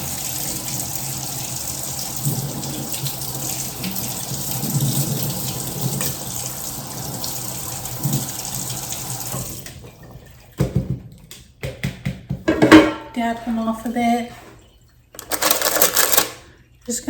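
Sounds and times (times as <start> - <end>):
tap water running: 0.0 - 11.3, 13.9 - 17.0.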